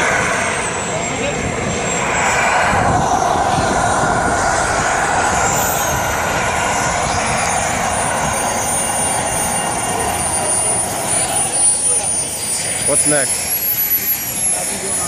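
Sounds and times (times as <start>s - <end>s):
model jet rushing and whining: 0.0s - 15.0s.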